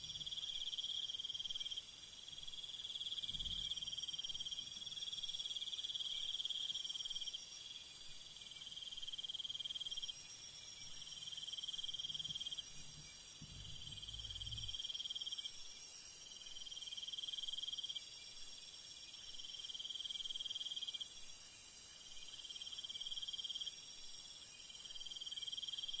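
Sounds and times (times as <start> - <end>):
insect chirring trill: 0.0 - 26.0.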